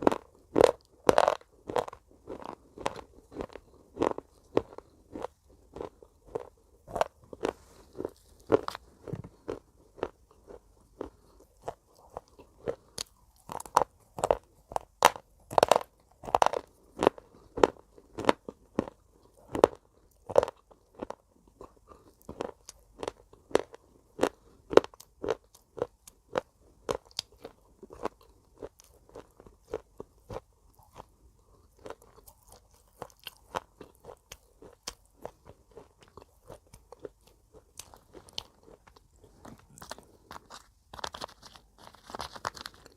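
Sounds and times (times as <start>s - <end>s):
chewing crunchy pieces: 0.0s - 42.9s.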